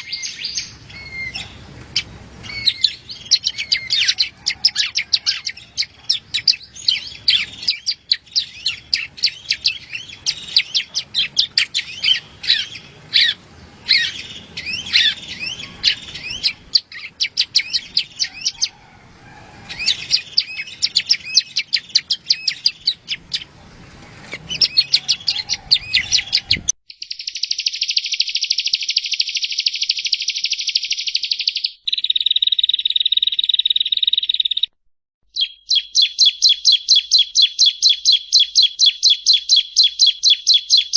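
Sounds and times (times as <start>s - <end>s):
bird trilling: 0.0s - 23.6s, 24.4s - 34.7s, 35.3s - 40.9s
bird chirping: 0.0s - 40.9s.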